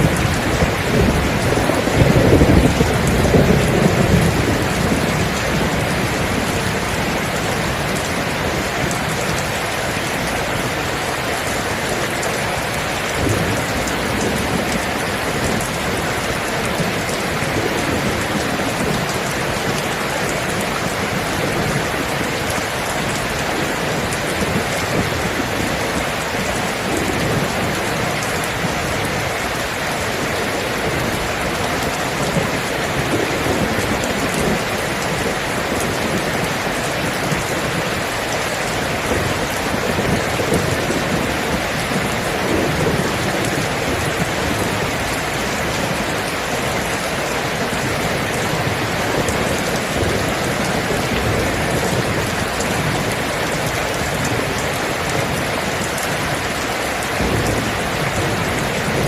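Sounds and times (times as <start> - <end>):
steady rain falling: 0.0 - 59.0
thunder rumbling: 0.0 - 59.0.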